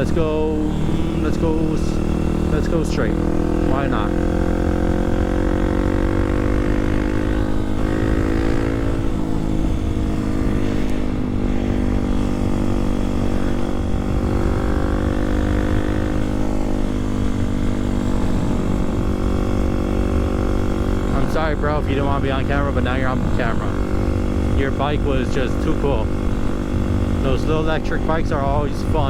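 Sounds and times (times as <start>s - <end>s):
motorcycle engine running: 0.0s - 29.0s
wind rumble: 0.0s - 29.0s.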